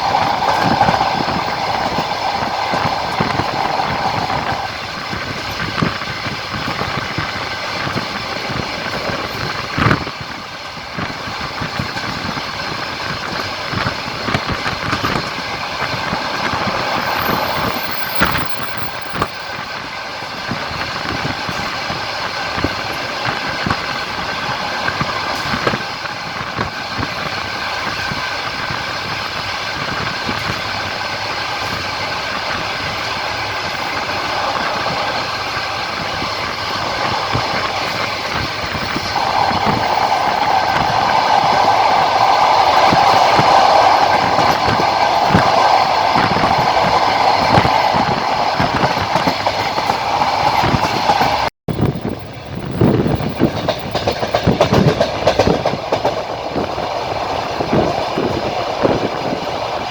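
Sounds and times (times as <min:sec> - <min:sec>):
train rolling noise: 0:00.0 - 0:59.9.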